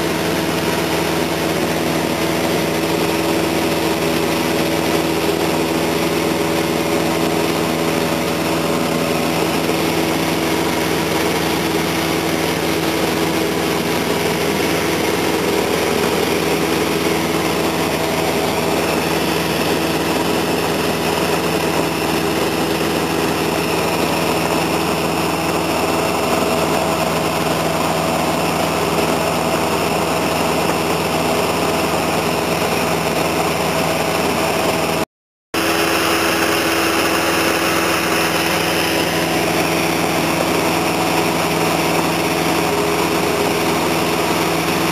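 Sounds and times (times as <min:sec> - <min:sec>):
light aircraft engine droning: 0:00.0 - 0:35.0, 0:35.6 - 0:44.9.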